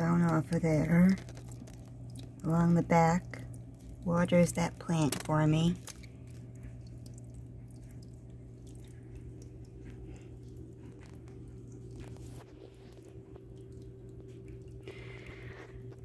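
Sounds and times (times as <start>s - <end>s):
low hum: 0.0s - 16.0s
water trickling and dripping: 0.0s - 16.0s.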